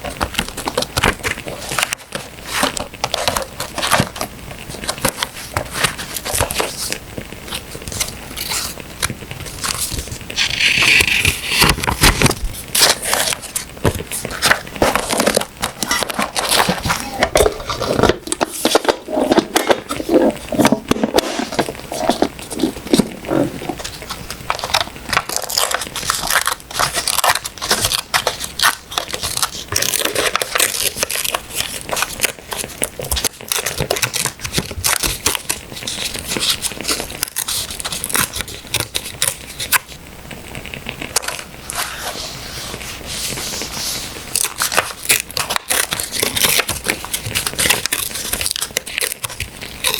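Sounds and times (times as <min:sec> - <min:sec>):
wood fire crackling: 0:00.0 - 0:11.1, 0:11.7 - 0:41.9
paper rustling and tearing: 0:00.0 - 0:40.0, 0:40.6 - 0:49.9.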